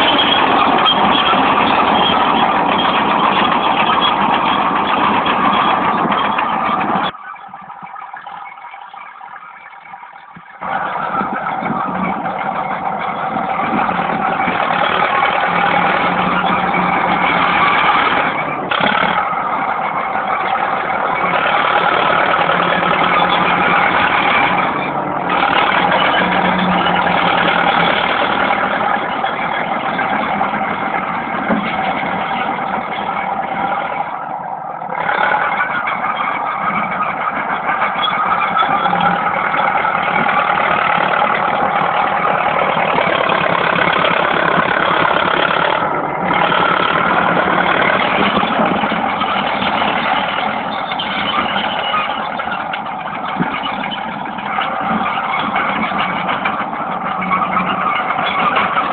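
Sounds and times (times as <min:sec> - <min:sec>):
crawler diesel engine under load: 0:00.0 - 0:58.9.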